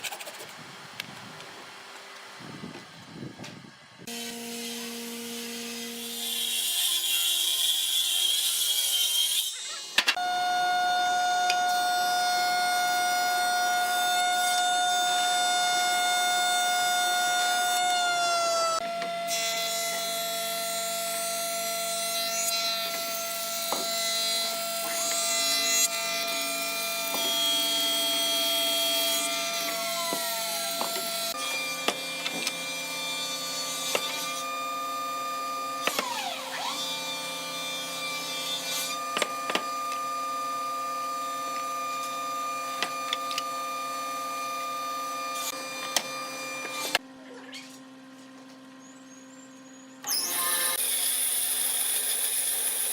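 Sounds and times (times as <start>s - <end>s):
power saw cutting wood: 4.1s - 47.0s, 50.0s - 52.9s.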